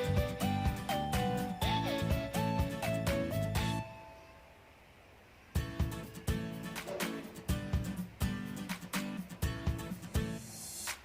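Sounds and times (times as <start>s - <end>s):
background music with beat: 0.0s - 3.9s, 5.6s - 11.0s.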